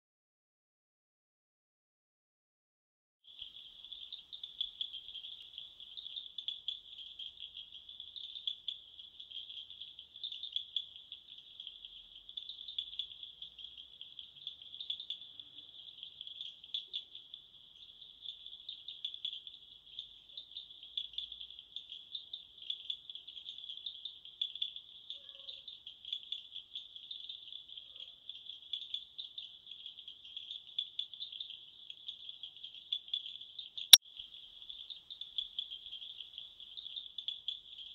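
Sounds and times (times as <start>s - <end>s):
crickets chirping: 3.3s - 33.7s.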